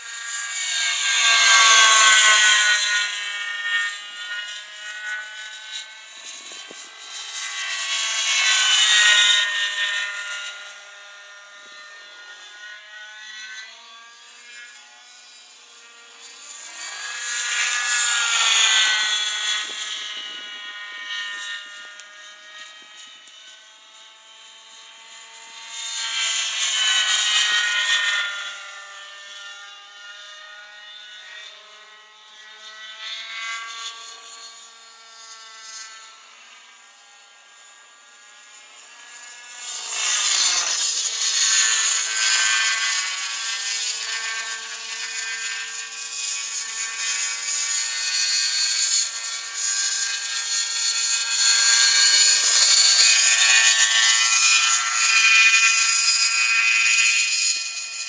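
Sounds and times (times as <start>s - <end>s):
model helicopter engine and rotor whine: 0.0s - 58.0s.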